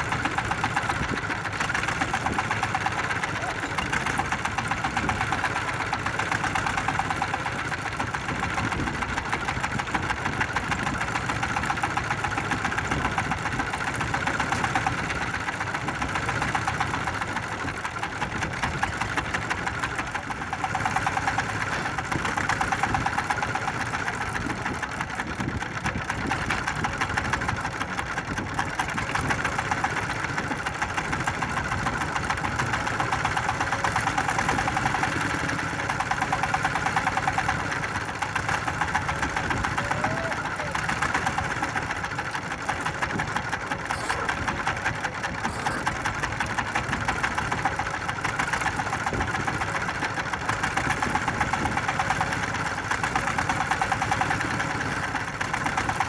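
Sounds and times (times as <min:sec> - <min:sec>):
boat engine chugging: 0:00.0 - 0:56.0.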